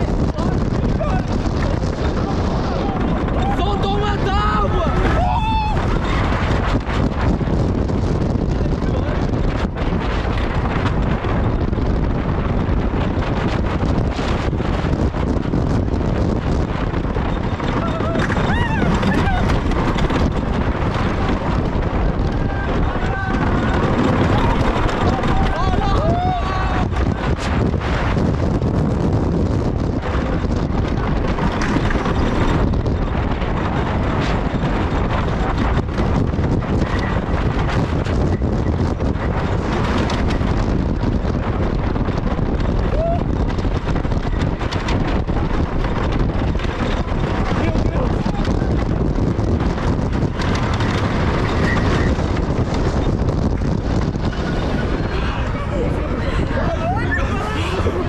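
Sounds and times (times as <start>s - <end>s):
roller coaster rumble and clatter: 0.0s - 58.0s
wheels rattling on wooden track: 0.0s - 58.0s
wind rushing over microphone: 0.0s - 58.0s.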